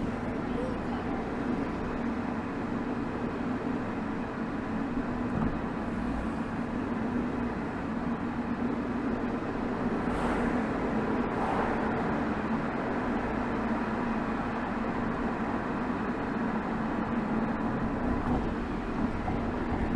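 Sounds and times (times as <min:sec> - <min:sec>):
diesel car exhaust drone: 0:00.0 - 0:19.9.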